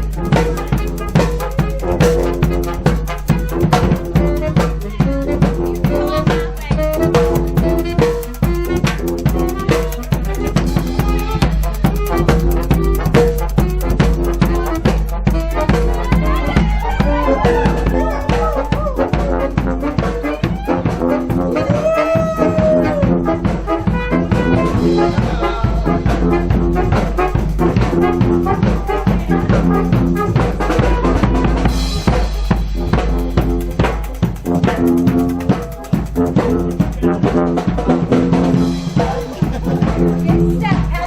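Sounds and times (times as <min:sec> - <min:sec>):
bass drum and snare beat: 0:00.0 - 0:41.0
horns holding chords: 0:00.0 - 0:41.0.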